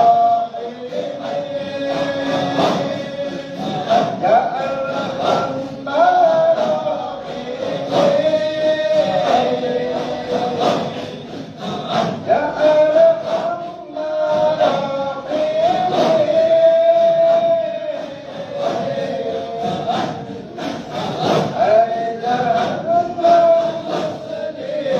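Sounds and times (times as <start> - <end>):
men chanting together: 0.0 - 24.9
sharp percussive beats: 0.0 - 24.9.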